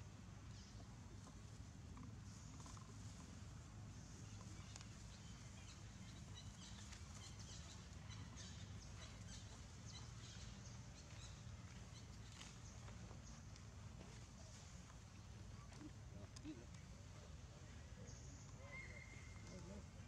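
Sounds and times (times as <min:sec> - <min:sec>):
faint low hum: 0:00.0 - 0:20.0
faint high ticks and chirps: 0:00.4 - 0:17.3.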